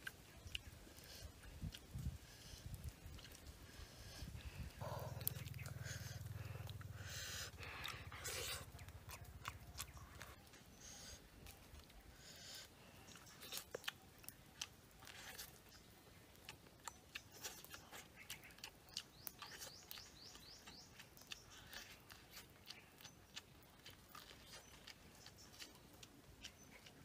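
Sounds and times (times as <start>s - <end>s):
crunching corn on the cob: 0.0s - 27.0s.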